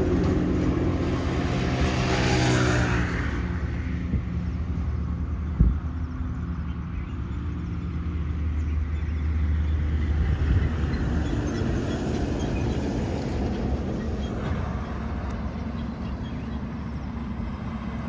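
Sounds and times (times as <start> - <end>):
tyre and road noise: 0.0 - 6.6, 9.3 - 18.0
diesel truck engine drone: 0.0 - 18.0.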